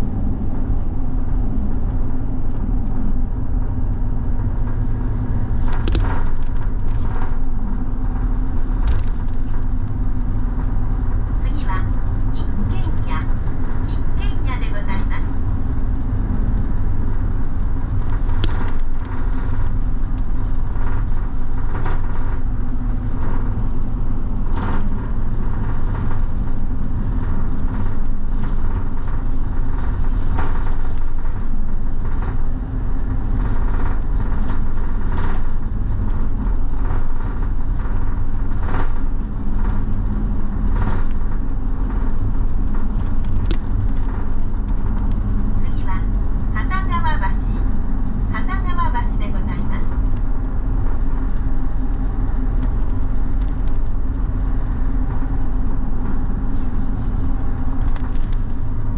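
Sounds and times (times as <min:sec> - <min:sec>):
bus engine and road rumble: 0:00.0 - 0:58.9.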